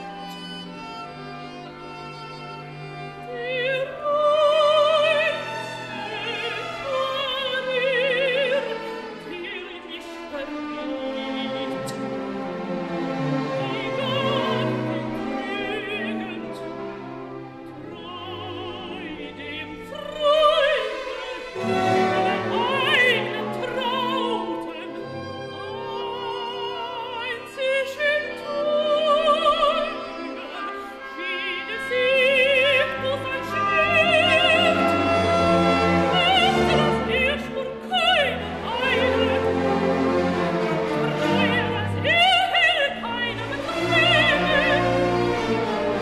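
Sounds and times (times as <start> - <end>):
operatic singing: 0.0 - 46.0
orchestra playing: 0.0 - 46.0.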